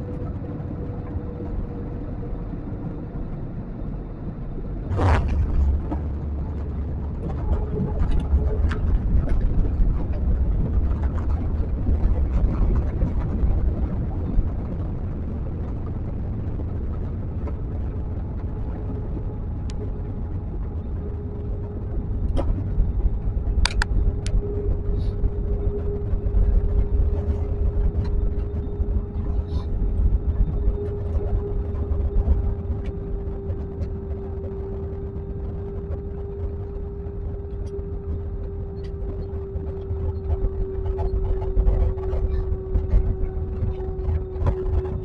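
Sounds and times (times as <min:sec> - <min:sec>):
airliner engine and air rumble: 0:00.0 - 0:45.0
wheels rolling on runway: 0:00.0 - 0:45.0.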